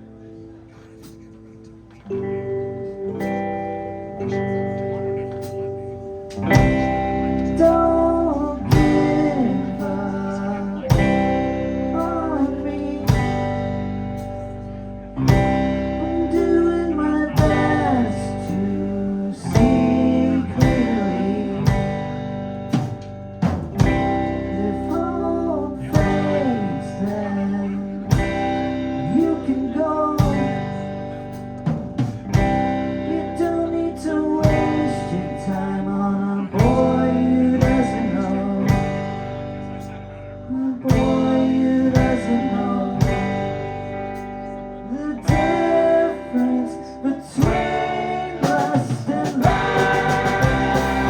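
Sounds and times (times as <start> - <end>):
rock band playing live: 2.0 - 51.0.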